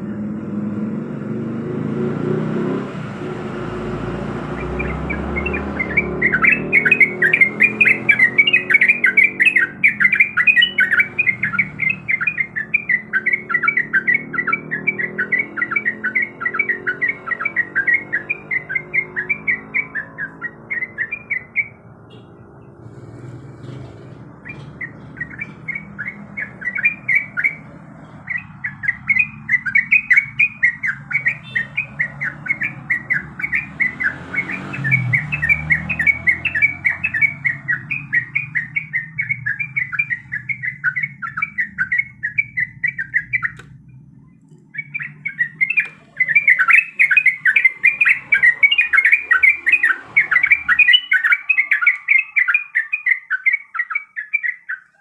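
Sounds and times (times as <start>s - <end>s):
bird singing chattering notes: 2.3s - 55.0s.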